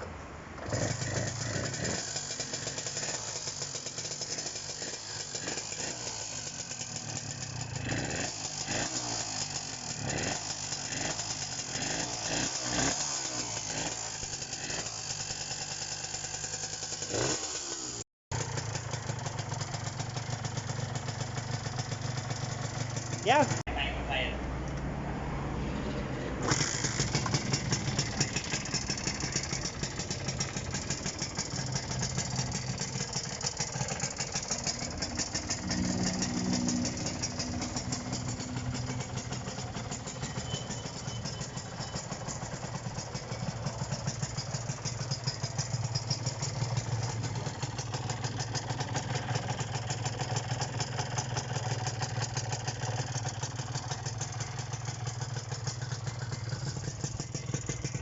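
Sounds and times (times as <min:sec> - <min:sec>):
two-stroke engine idling: 0:00.6 - 0:24.4, 0:26.4 - 0:58.0.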